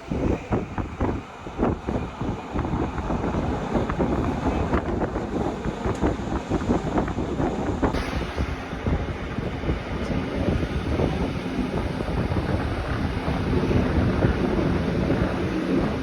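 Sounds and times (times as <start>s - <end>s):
train rumble: 0.0s - 16.0s
wind noise on microphone: 0.0s - 16.0s.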